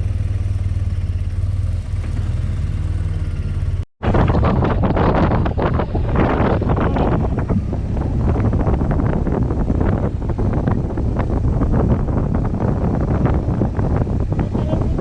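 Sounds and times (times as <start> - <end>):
motorcycle engine drone: 0.0 - 15.0
road noise: 0.0 - 15.0
wind buffeting microphone: 1.9 - 15.0.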